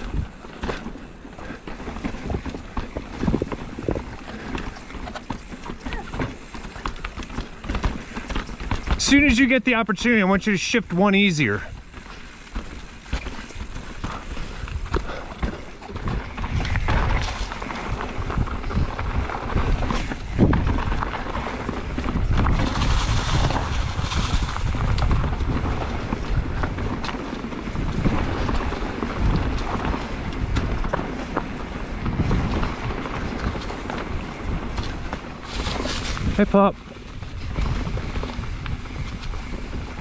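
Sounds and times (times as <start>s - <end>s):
bike knocks and rattles: 0.0s - 10.2s, 11.6s - 40.0s
tyres rumbling on dirt and rock: 0.0s - 40.0s.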